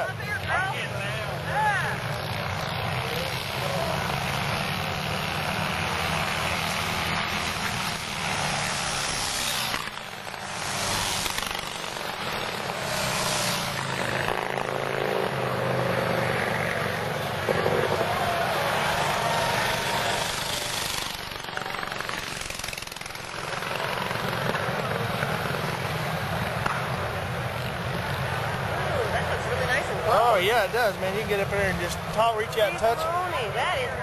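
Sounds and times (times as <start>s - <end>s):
racing motorcycle engines: 0.0s - 34.0s.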